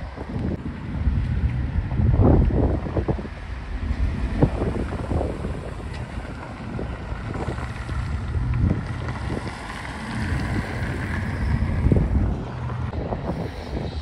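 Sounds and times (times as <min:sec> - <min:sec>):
cars driving slowly past: 0:00.0 - 0:14.0
wind on microphone: 0:00.0 - 0:14.0.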